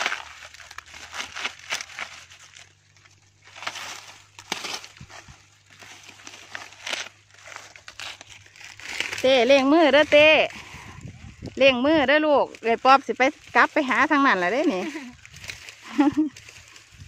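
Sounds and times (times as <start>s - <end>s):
dry corn husks crackling: 0.0s - 17.0s.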